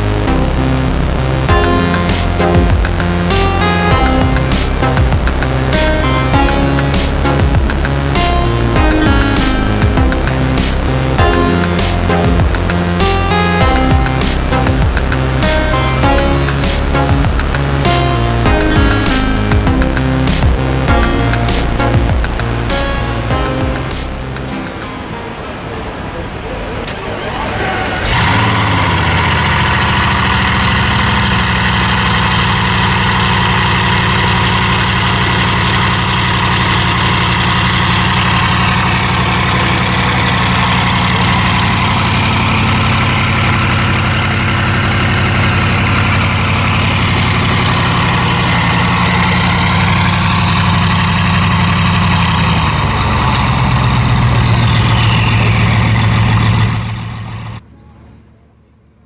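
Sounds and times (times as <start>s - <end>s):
car engine idling: 0.0s - 57.7s
high whine: 0.0s - 57.8s.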